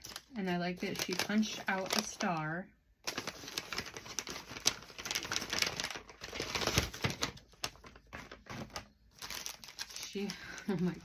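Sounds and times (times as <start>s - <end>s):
gift bag rustling: 0.0s - 2.4s, 3.0s - 11.0s.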